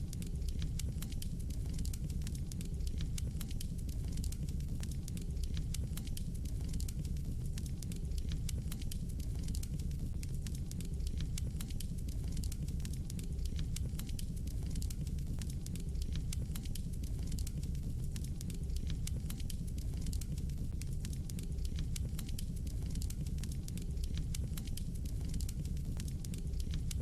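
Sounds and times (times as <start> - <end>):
fire crackling and popping: 0.0 - 27.0
low rumble of flame: 0.0 - 27.0.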